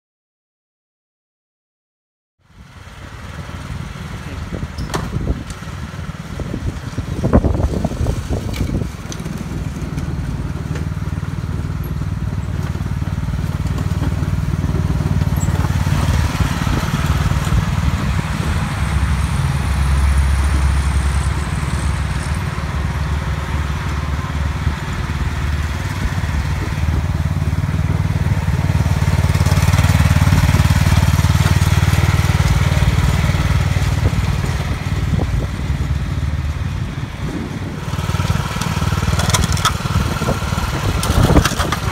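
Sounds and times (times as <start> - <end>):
lawn tractor engine running: 2.5 - 41.9.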